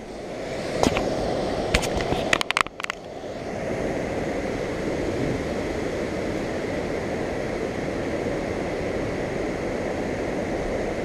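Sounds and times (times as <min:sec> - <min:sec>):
water rushing over a dam: 0:00.0 - 0:11.0.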